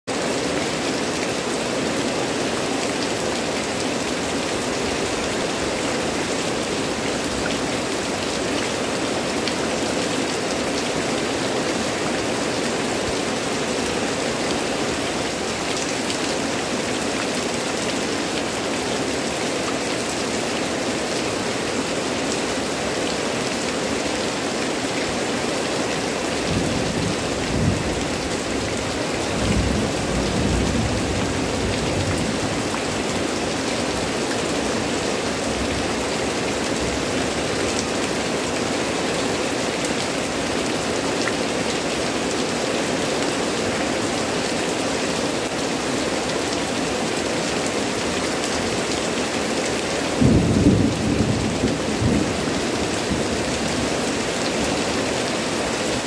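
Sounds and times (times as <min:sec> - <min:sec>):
heavy rain on foliage: 0:00.0 - 0:56.0.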